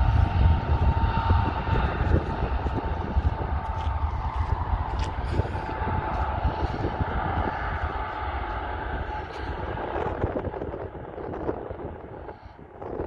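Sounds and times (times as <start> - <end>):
distant jet engines whining: 0.0 - 13.0
wind buffeting microphone: 0.0 - 13.0.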